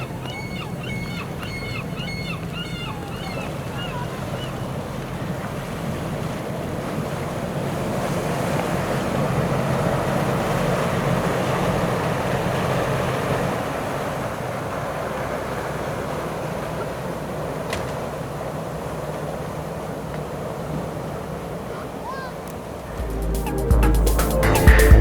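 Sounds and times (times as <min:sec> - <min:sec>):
boat engine droning: 0:00.0 - 0:22.0, 0:22.6 - 0:25.0
rushing water: 0:00.0 - 0:25.0
wind: 0:00.0 - 0:25.0.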